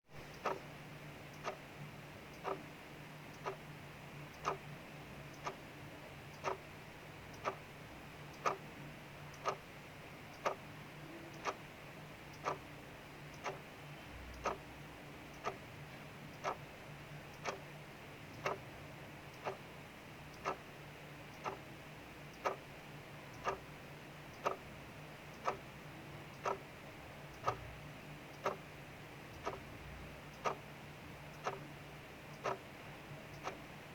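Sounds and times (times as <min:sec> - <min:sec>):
faint low hum: 0:00.1 - 0:33.9
clock ticking: 0:00.2 - 0:02.7, 0:03.3 - 0:03.7, 0:04.3 - 0:04.7, 0:05.3 - 0:05.7, 0:06.3 - 0:08.7, 0:09.3 - 0:19.7, 0:20.3 - 0:33.9.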